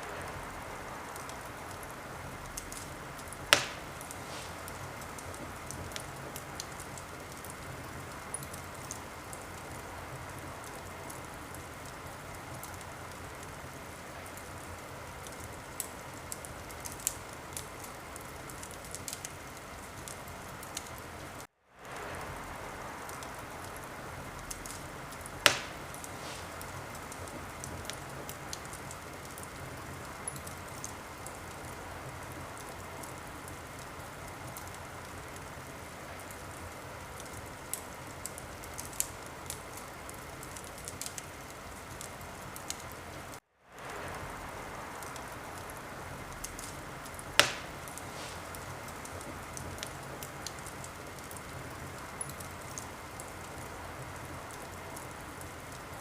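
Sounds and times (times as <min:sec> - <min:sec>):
loud fire pops: 0:00.0 - 0:42.8, 0:43.7 - 0:55.9
fire hissing and crackling: 0:00.0 - 0:56.0.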